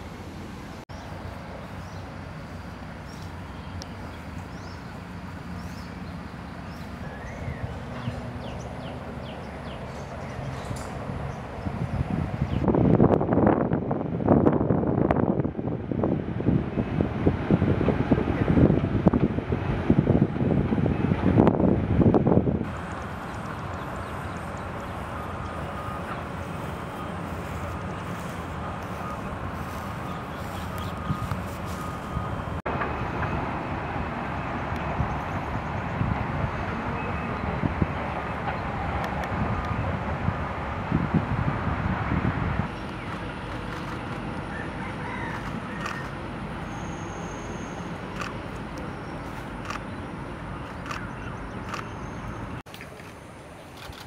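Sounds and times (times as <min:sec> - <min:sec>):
distant road traffic rumble: 0:00.0 - 0:54.0.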